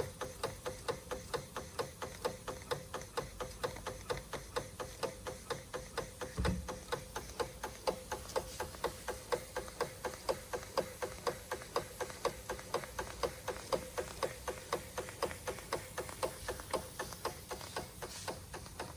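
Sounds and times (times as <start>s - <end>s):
toy steam engine clicking: 0.0s - 18.9s.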